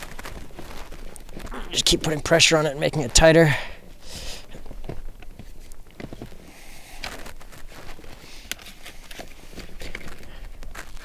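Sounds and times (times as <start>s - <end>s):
creaks: 0.0s - 3.4s, 4.4s - 11.0s
rustling: 0.0s - 11.0s.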